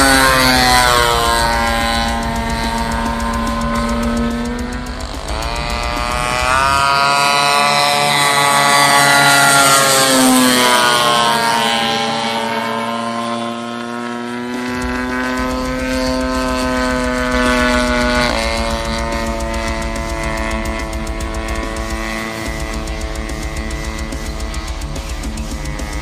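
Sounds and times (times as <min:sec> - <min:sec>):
model plane engine whining: 0:00.0 - 0:26.0.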